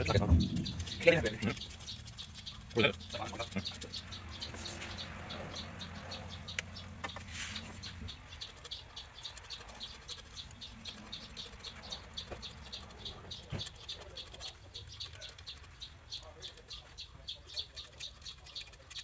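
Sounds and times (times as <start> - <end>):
small animal chirping: 0.0 - 19.0.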